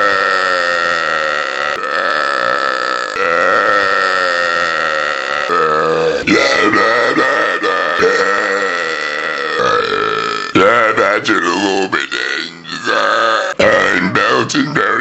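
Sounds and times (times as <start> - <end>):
person belching: 0.0 - 15.0.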